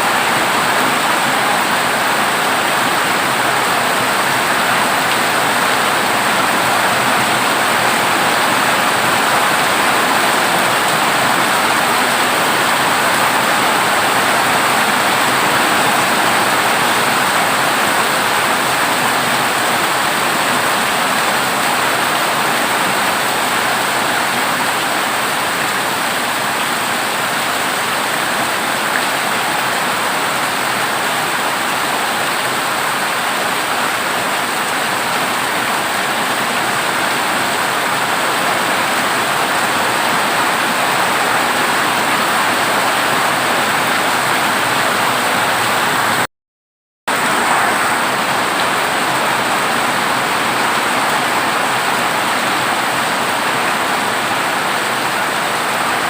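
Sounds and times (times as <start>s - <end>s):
heavy rain on metal roof: 0.0s - 46.3s, 47.1s - 56.0s.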